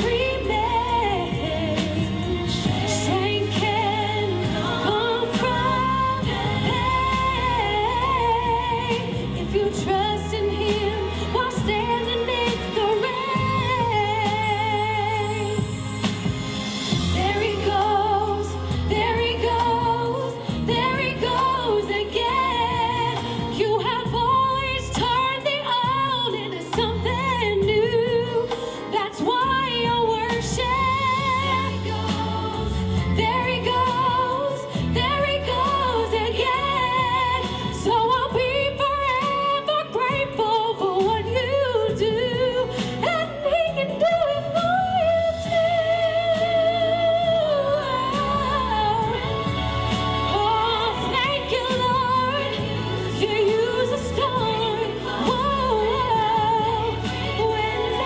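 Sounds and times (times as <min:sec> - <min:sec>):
instrumental backing with bass: 0:00.0 - 0:58.0
woman singing with vibrato: 0:00.0 - 0:58.0.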